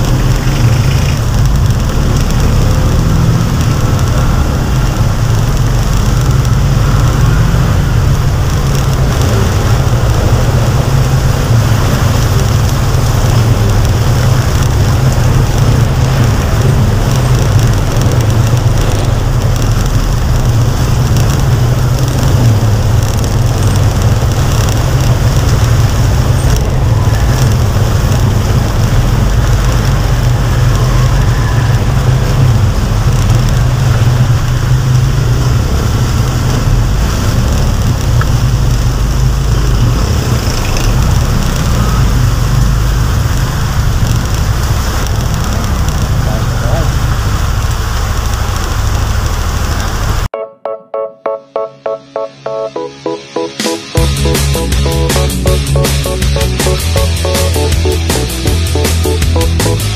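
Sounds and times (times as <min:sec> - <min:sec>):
heavy rain hiss: 0:00.0 - 0:50.3, 0:53.1 - 0:59.9
road traffic rumble: 0:00.0 - 0:50.3, 0:51.5 - 0:59.9.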